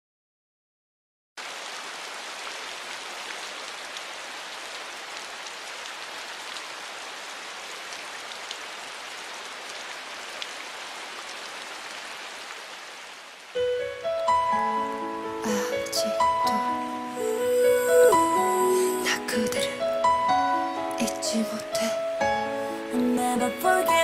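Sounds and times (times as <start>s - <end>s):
rain falling: 1.4s - 24.0s.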